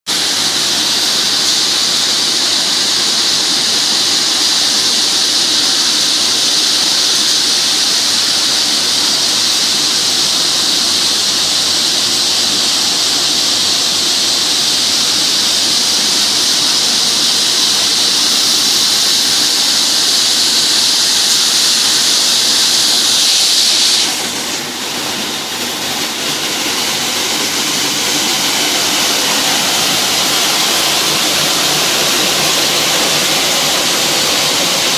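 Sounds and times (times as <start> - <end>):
machine noise: 0.1 - 34.9
sanding machine hissing on wood: 0.1 - 34.9.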